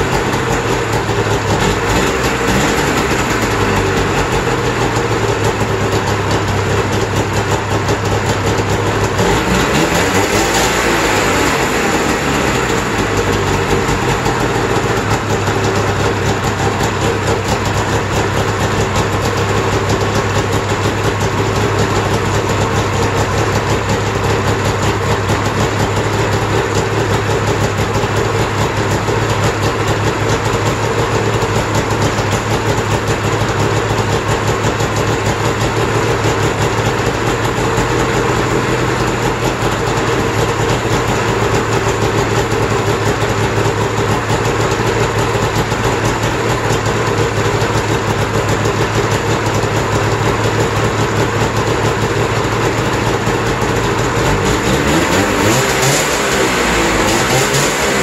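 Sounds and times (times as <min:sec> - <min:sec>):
snowmobile engine idling: 0:00.0 - 0:58.0.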